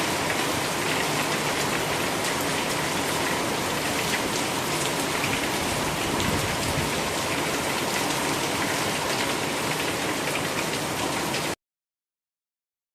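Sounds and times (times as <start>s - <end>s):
heavy rain falling: 0.0s - 11.6s.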